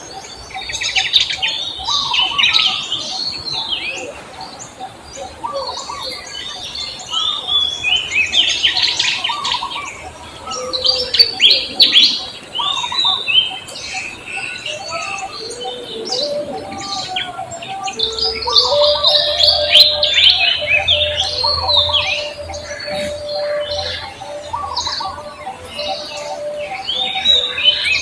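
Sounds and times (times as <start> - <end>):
songbirds chirping and whistling: 0.0 - 28.0.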